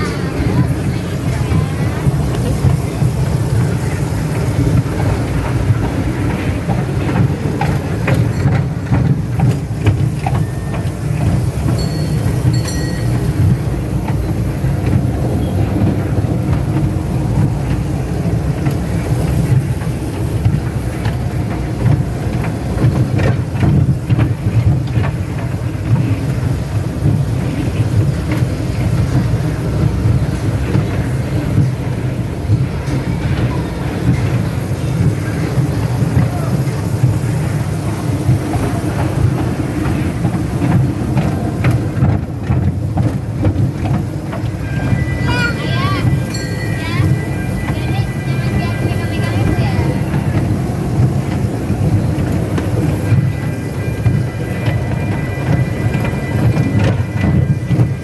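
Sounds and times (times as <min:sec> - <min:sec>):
train rumbling: 0:00.0 - 0:58.0
wheels clacking over rail joints: 0:00.0 - 0:58.0.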